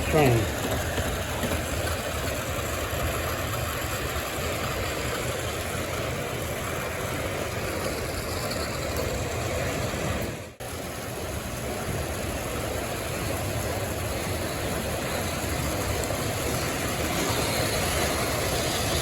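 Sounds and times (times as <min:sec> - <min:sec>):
model trains rumbling on track: 0:00.0 - 0:19.0.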